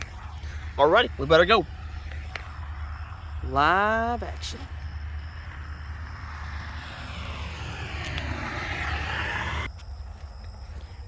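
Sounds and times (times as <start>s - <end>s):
car driving on road: 0.0s - 9.8s.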